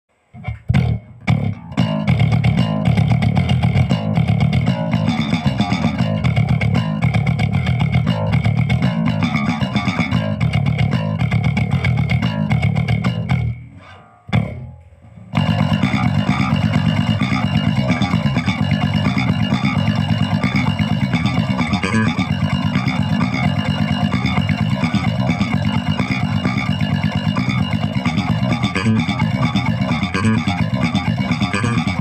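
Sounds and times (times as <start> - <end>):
electric bass metal riff: 0.3 - 32.0.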